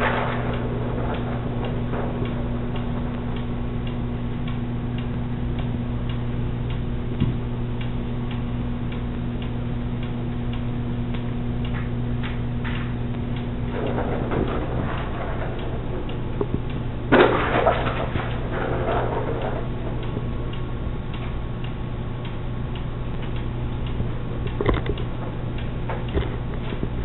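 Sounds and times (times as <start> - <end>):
low hum: 0.0 - 27.0
mechanical ticking: 0.0 - 27.0.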